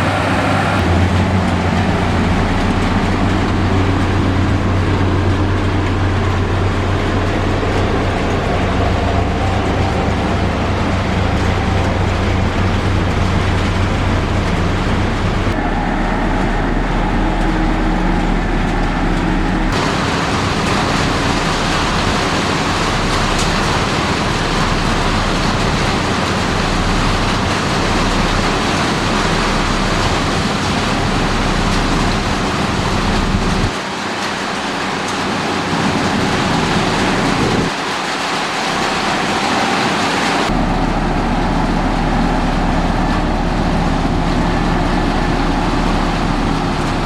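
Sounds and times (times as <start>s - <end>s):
heavy machinery diesel engines: 0.0s - 47.0s.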